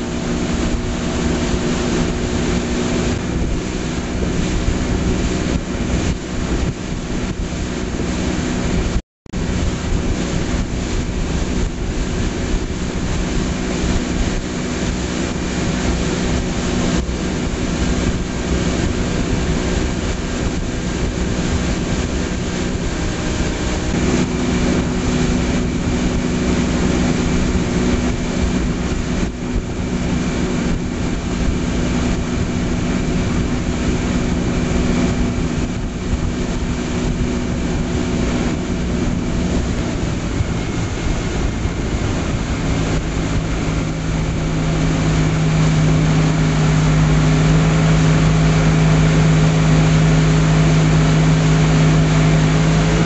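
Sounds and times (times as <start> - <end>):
motorboat engine running: 0.0 - 53.0
rushing water: 0.0 - 53.0
rushing wind: 0.0 - 53.0.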